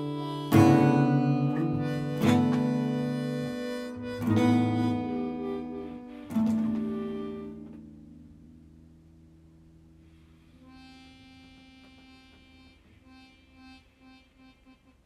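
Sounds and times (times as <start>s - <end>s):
harmonica notes: 0.0s - 8.4s, 10.1s - 15.0s
acoustic guitar chord strummed: 0.0s - 12.8s.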